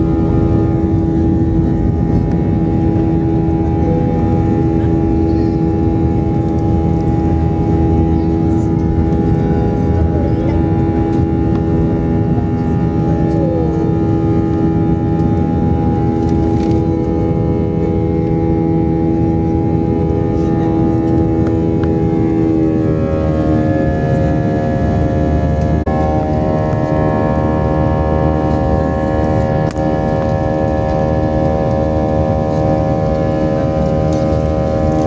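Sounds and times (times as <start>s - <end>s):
aeroplane engines droning: 0.0s - 35.0s.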